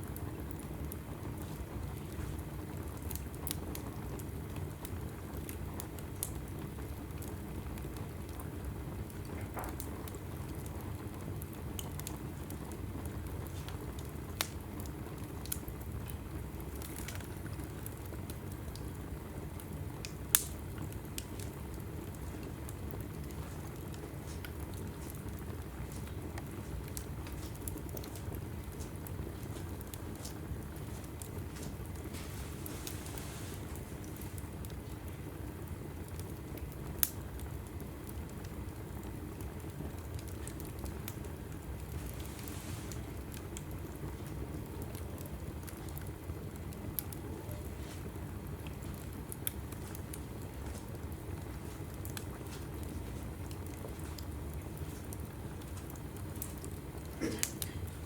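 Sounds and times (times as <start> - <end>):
logs burning and crackling: 0.0 - 58.0.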